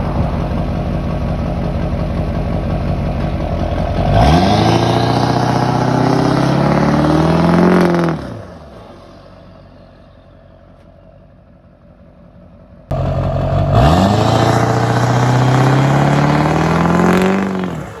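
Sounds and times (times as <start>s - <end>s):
turbodiesel engine revving: 0.0s - 10.6s, 12.9s - 18.0s.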